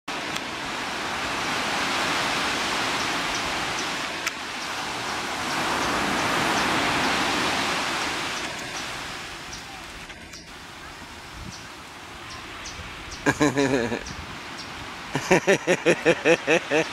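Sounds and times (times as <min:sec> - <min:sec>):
ocean surf breaking on beach: 0:00.1 - 0:16.9.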